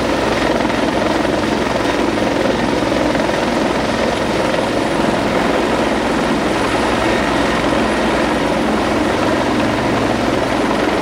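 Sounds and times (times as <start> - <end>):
helicopter hovering: 0.0 - 11.0.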